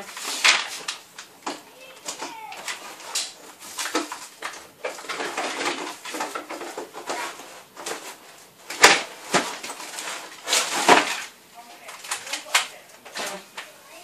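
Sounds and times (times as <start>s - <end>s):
clicks and knocks of handling: 0.1s - 13.7s.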